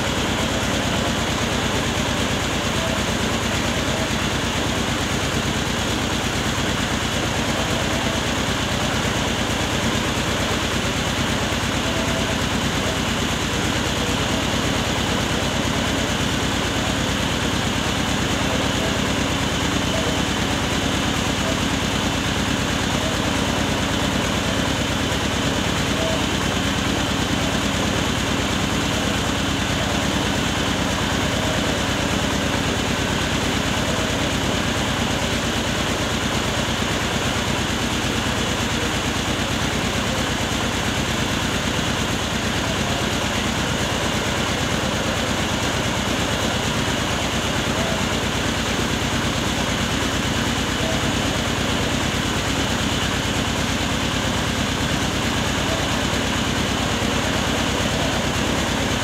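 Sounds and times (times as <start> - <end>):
rice mill engine humming: 0.0 - 59.0.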